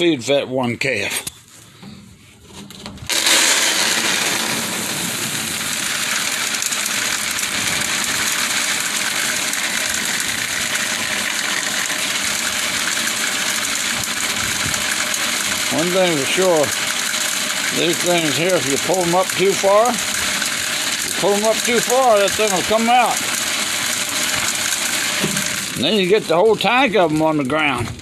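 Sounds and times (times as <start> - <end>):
feed pouring down metal chute: 3.1 - 28.0.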